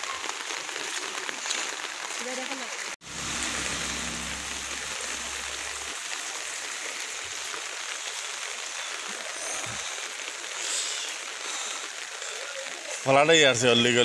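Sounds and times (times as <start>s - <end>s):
heavy rain on puddles: 0.0s - 14.0s.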